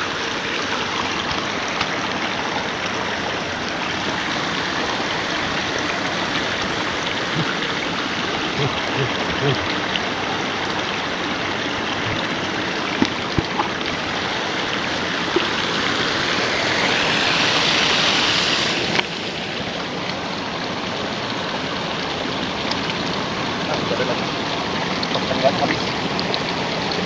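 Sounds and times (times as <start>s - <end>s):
running water in a ditch: 0.0s - 27.0s
water pouring from a pipe: 0.0s - 27.0s.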